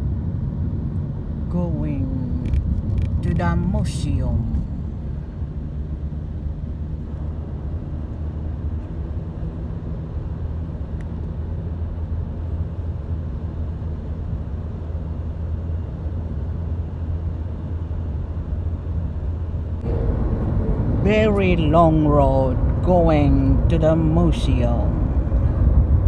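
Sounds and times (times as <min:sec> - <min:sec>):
car road noise from inside: 0:00.0 - 0:26.0.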